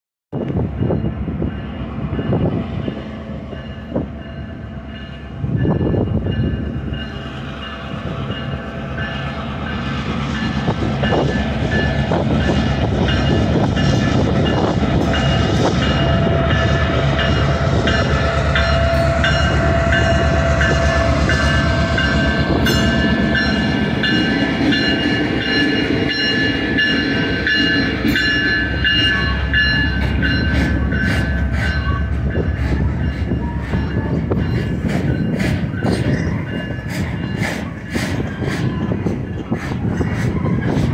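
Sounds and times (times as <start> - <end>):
diesel locomotive running: 0.4 - 40.9.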